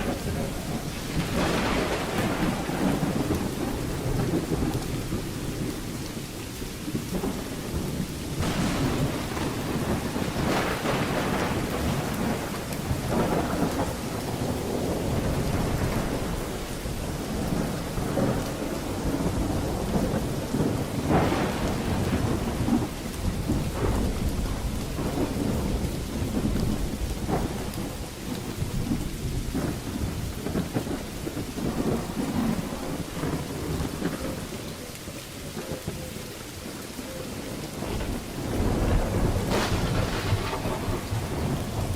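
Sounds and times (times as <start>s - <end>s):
thunder crack: 0.0s - 5.9s, 6.9s - 34.9s, 37.8s - 41.9s
heavy rain: 0.0s - 41.9s
rolling thunder: 0.0s - 41.9s.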